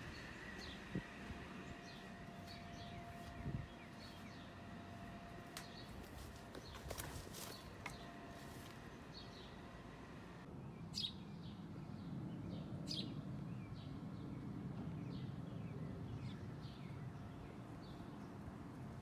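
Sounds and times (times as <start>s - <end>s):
small birds chirping: 0.0s - 4.7s, 5.4s - 9.7s, 10.6s - 18.4s.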